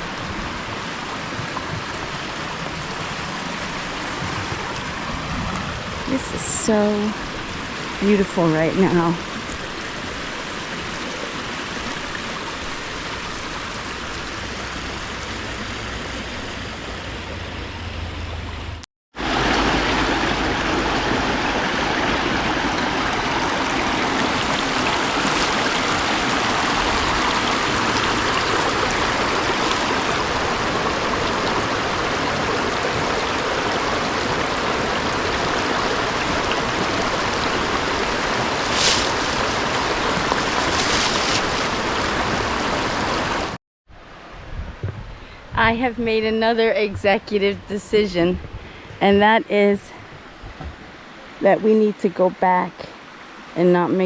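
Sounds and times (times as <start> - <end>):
creek water running over rocks: 0.0 - 17.9, 19.2 - 44.3, 48.2 - 54.0.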